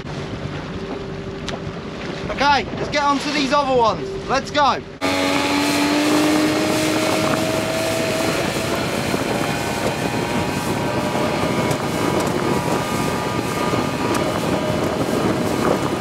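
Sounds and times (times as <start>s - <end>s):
boat engine running: 0.0s - 16.0s
rush of wind and water: 0.0s - 16.0s.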